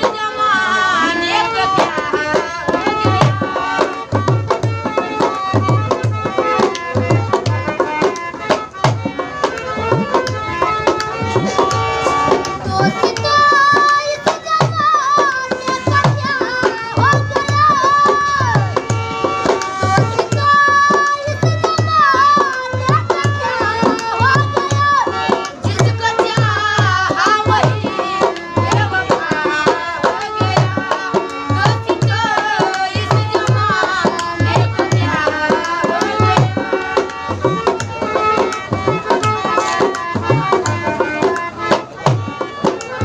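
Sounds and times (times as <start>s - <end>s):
dhol drum beat: 0.0s - 43.0s
harmonium melody: 0.0s - 43.0s.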